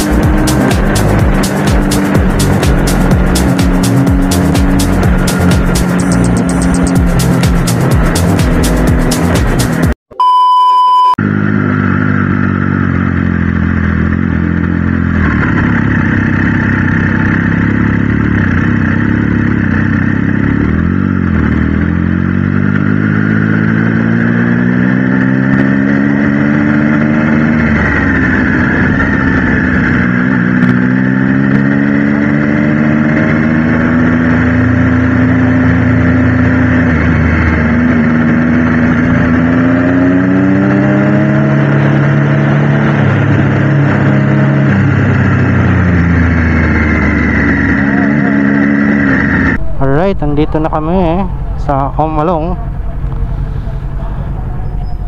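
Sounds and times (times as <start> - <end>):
motorcycle engine accelerating: 0.0 - 10.0, 11.2 - 55.0.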